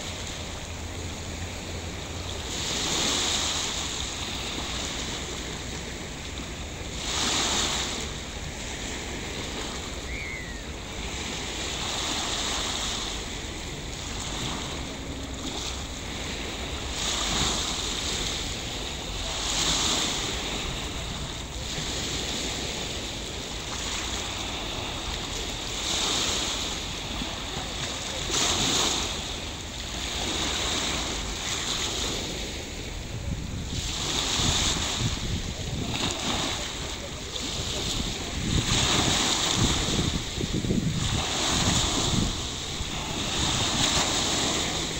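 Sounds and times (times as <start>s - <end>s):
sea surf washing on beach: 0.0s - 44.9s
waves breaking: 0.0s - 44.9s.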